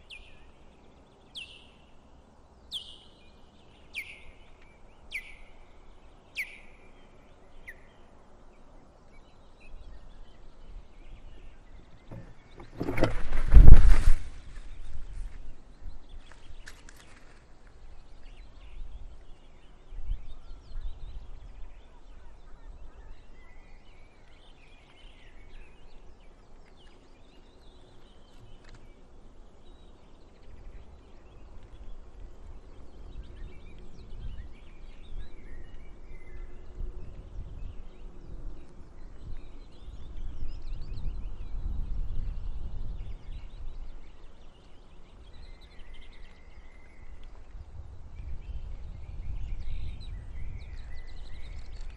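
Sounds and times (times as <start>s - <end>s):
wind rumbling on microphone: 3.2s - 51.9s.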